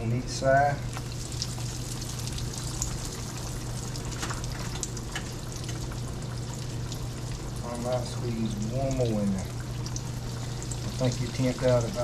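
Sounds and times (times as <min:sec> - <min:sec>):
meat sizzling in hot grease: 0:00.9 - 0:12.0.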